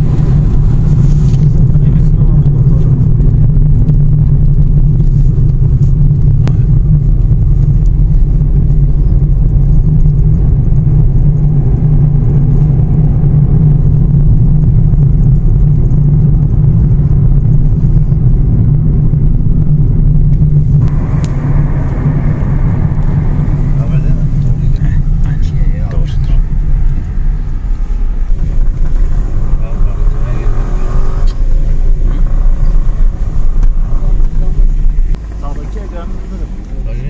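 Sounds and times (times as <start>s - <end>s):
engine and tyre rumble: 0.0s - 37.0s.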